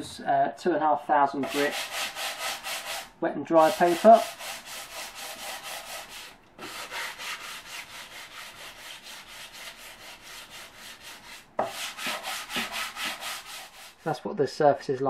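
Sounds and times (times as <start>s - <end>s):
sandpaper rasping on cast iron: 1.4s - 14.2s.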